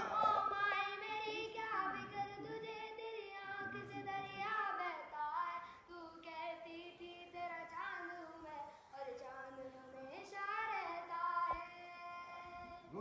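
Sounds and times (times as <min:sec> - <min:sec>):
boy singing unaccompanied: 0:00.0 - 0:13.0.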